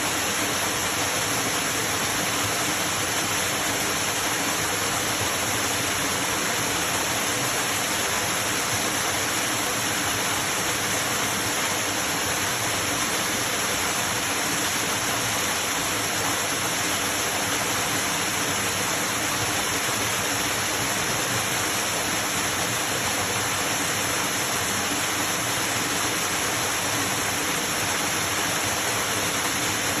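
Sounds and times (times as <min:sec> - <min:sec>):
waterfall pouring and splashing: 0:00.0 - 0:30.0.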